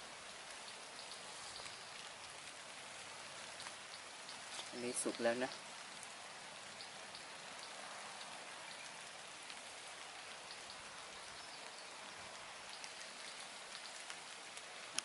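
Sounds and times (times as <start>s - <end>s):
soft hiss: 0.0s - 15.0s
faint ticks: 0.4s - 15.0s.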